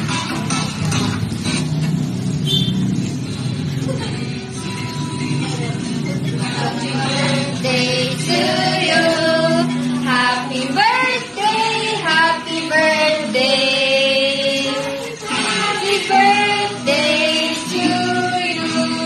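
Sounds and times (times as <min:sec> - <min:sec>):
voices singing with music: 0:00.0 - 0:19.0.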